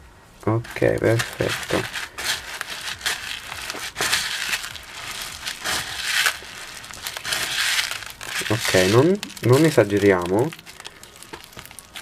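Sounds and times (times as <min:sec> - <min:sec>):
slime crunching with plastic beads: 0:00.6 - 0:12.0.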